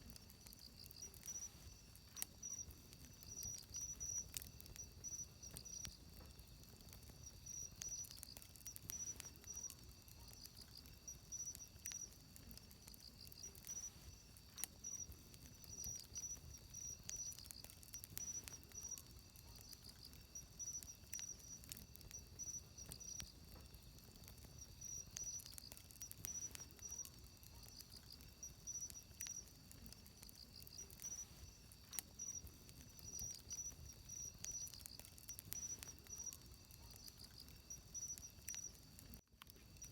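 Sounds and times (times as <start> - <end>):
insects chirping: 0.0 - 39.9
wood fire crackling: 0.0 - 39.9.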